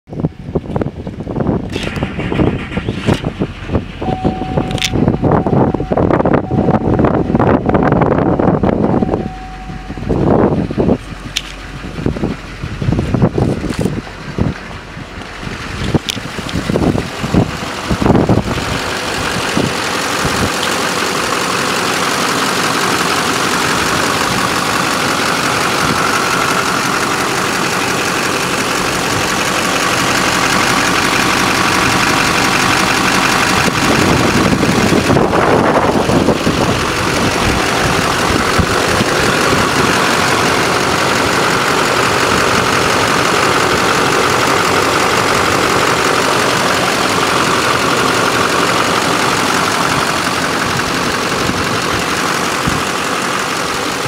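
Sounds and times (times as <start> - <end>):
diesel engine idling: 0.1 - 54.0.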